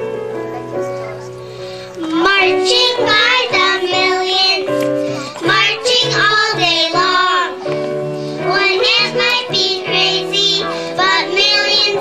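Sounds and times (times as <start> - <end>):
instrumental accompaniment: 0.0 - 12.0
child singing into a microphone: 2.0 - 12.0.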